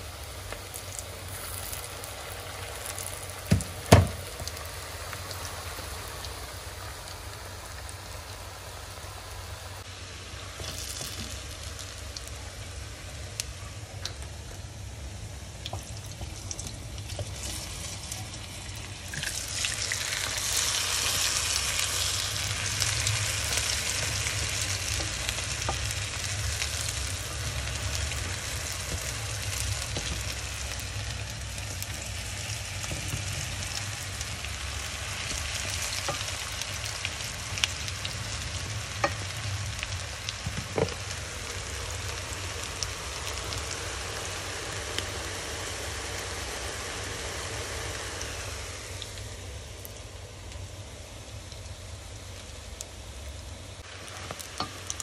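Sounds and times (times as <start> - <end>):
sizzling hiss with crackle: 0.0 - 55.0.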